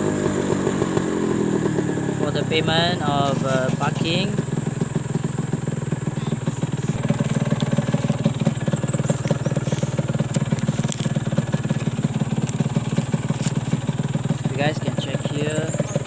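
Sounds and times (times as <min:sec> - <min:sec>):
motorcycle engine puttering: 0:00.0 - 0:16.0.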